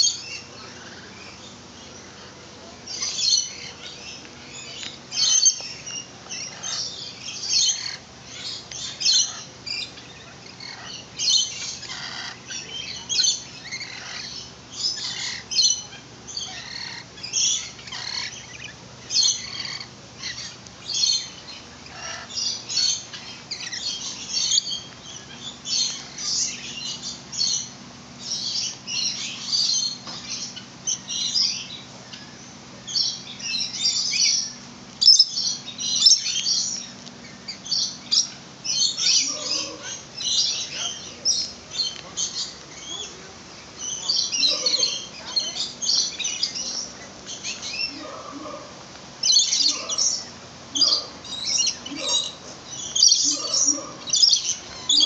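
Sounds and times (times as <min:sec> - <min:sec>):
birds chirping and squawking: 0:00.0 - 0:55.0.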